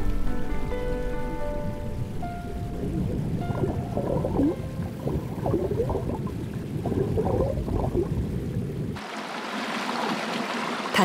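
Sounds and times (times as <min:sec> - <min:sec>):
low rumbling with wavering tones: 0:00.0 - 0:09.0
stream water flowing: 0:00.0 - 0:11.0.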